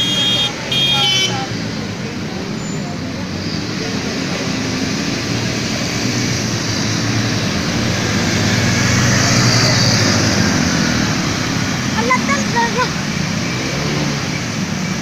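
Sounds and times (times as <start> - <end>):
vehicle engine passing: 0.0 - 15.0.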